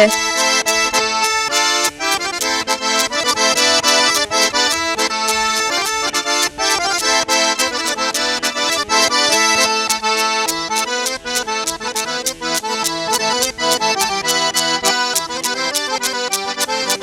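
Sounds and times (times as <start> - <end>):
fast accordion dance music: 0.0 - 17.0.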